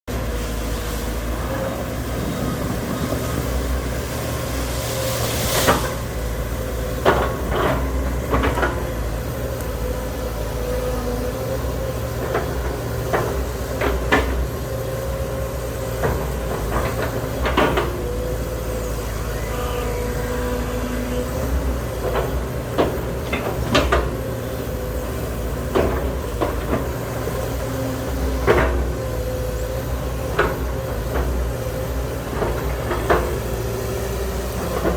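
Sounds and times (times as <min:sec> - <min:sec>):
excavator engine running: 0:00.1 - 0:34.9.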